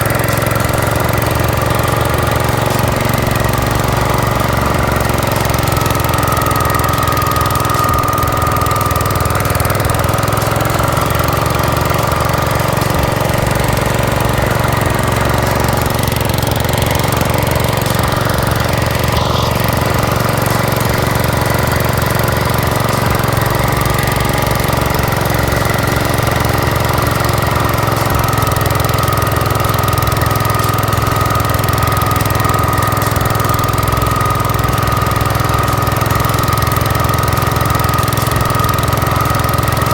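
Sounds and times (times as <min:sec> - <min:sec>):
snow blower whine: 0:00.0 - 0:39.9
tractor engine running: 0:00.0 - 0:39.9.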